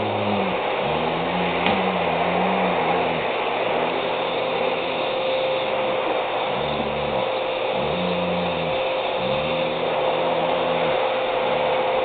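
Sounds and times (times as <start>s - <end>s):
dog's low drawn-out vocal sounds: 0.0s - 12.0s
vacuum cleaner motor whining: 0.0s - 12.0s.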